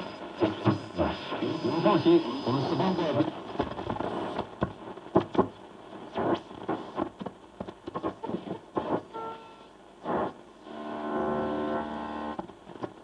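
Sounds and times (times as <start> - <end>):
radio static hiss with crackles: 0.0 - 13.0.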